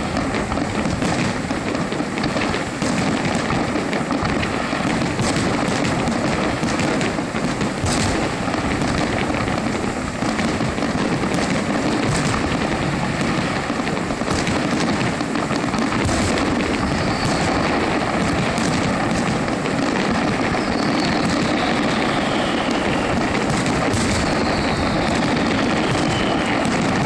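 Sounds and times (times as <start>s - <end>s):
fireworks bursting: 0.0s - 27.0s
sharp firework cracks: 0.0s - 27.0s.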